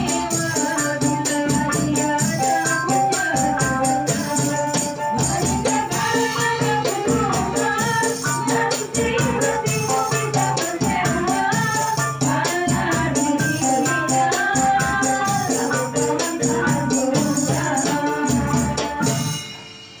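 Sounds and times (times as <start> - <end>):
women singing together: 0.0 - 19.4
tambourine jingling: 0.0 - 20.0.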